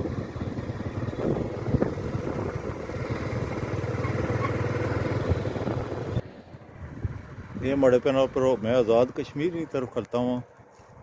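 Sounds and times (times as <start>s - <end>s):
road noise: 0.0s - 11.0s
vehicle engine hum: 0.0s - 11.0s.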